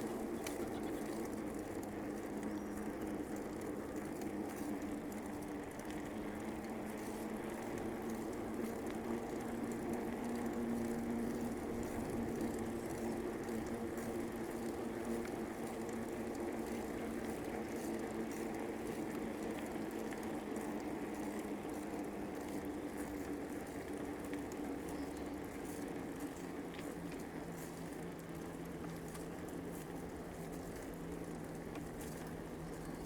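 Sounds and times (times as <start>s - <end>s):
bicycle tyres rolling on pavement: 0.0s - 33.0s.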